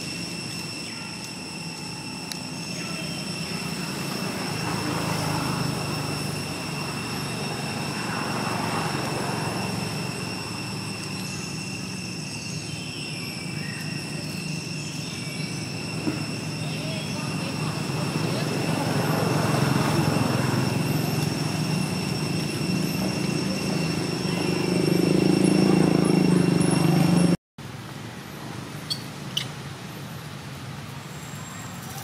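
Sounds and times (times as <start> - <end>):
high insect whine: 0.0 - 27.4.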